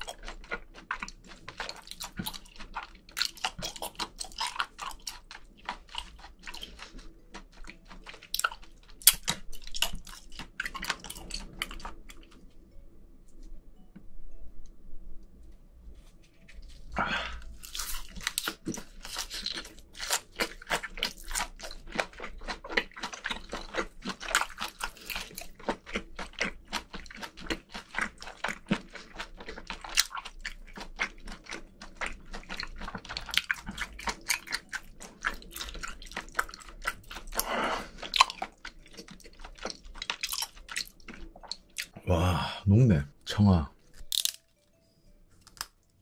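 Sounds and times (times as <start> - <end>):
wet squishy chewing: 0.0 - 12.5, 17.4 - 42.0.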